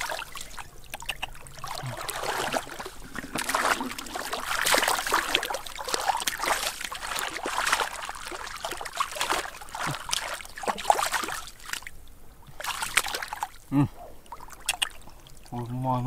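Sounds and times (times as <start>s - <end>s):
hands sloshing through water: 0.0s - 15.5s.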